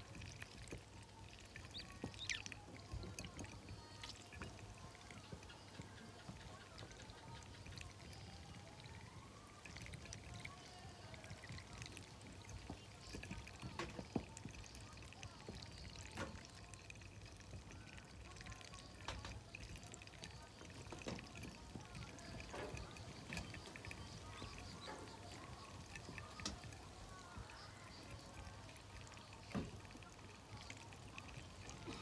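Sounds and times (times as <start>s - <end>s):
ducklings' bills tapping and dabbling: 0.0s - 32.0s.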